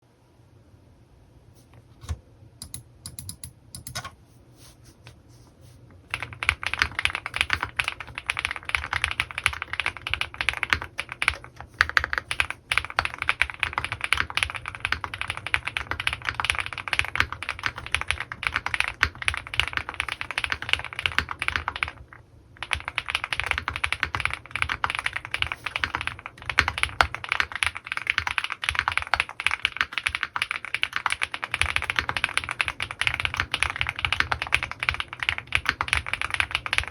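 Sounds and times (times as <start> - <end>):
typing on mechanical keyboard: 2.6 - 4.1, 6.1 - 36.9.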